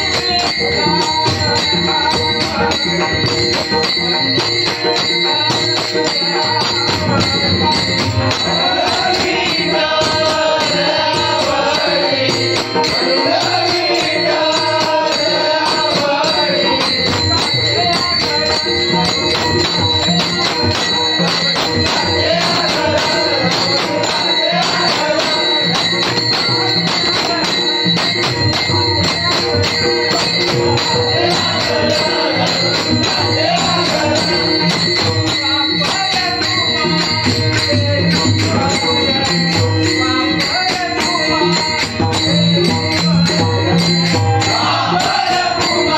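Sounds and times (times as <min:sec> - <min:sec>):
man singing: 0:00.0 - 0:20.5, 0:21.8 - 0:28.2, 0:29.0 - 0:45.9
hand drums: 0:00.0 - 0:45.9
jingling percussion: 0:00.0 - 0:45.9.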